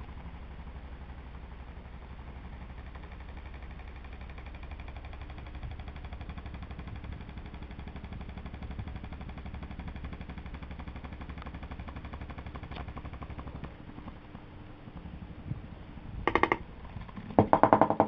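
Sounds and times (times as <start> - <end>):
electric fan rattling: 0.0 - 18.0.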